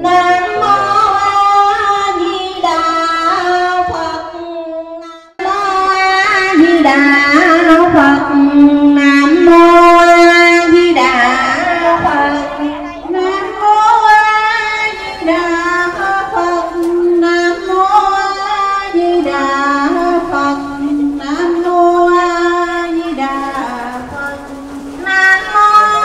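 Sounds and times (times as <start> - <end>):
woman singing slow melody: 0.0 - 26.0.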